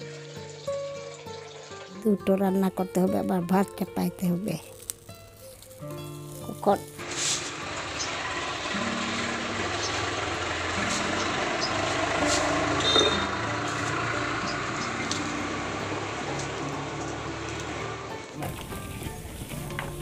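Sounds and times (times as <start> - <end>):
leaves and twigs burning crackle: 0.0 - 20.0.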